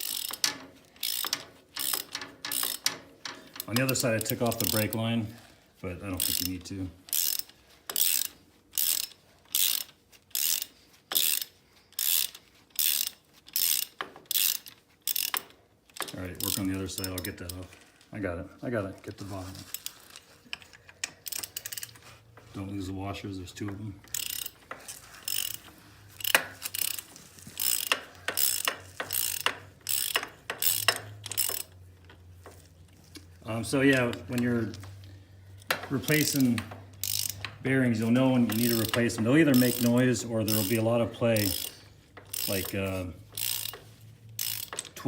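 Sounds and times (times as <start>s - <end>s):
ratchet wrench clicking: 0.0s - 5.1s, 6.2s - 17.7s, 19.7s - 22.5s, 24.0s - 33.2s, 33.8s - 45.0s.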